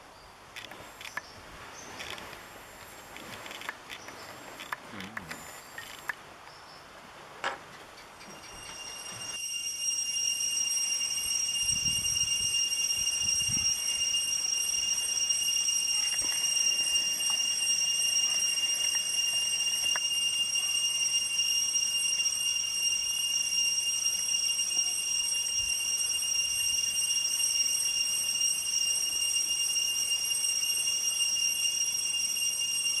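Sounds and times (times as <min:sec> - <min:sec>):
cicadas singing: 0:00.0 - 0:07.0, 0:07.7 - 0:33.0.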